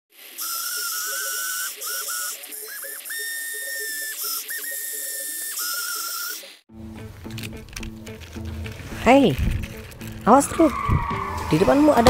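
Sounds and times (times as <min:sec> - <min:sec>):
gears and tracks hissing over gravel: 0:00.1 - 0:12.0
toy excavator motors whining: 0:00.1 - 0:12.0.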